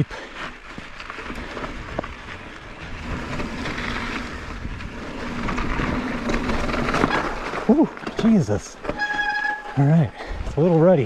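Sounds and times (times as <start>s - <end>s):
bike tyres on dirt trail: 0.0s - 11.0s
low hum from bike: 0.0s - 11.0s.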